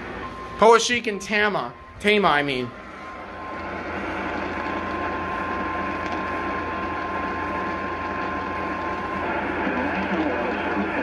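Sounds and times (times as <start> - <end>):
radio static hiss: 0.7 - 11.0.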